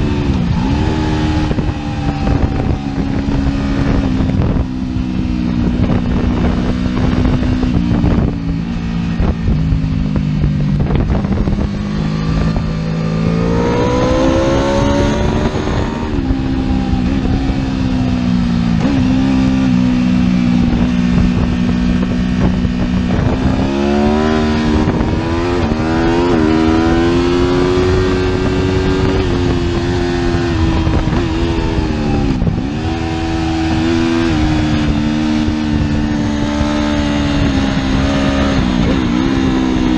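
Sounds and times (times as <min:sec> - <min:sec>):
motorbike engine running hard: 0:00.0 - 0:39.9
wind noise: 0:00.0 - 0:39.9.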